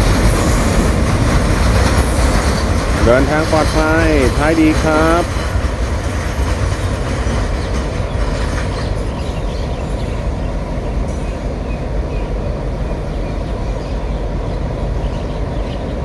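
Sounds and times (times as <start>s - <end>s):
train rumbling past on rails: 0.0s - 16.0s.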